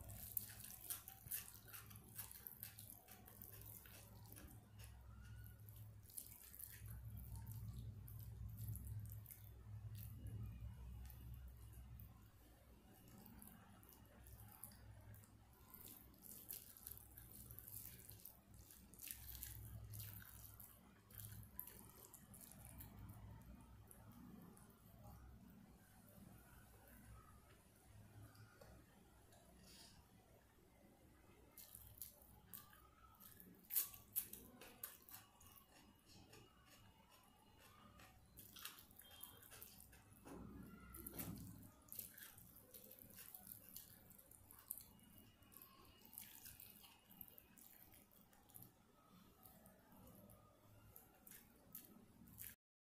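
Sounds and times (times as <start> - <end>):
fingers squishing wet rice: 0.0 - 25.3, 31.5 - 52.6
low steady hum: 0.0 - 52.6.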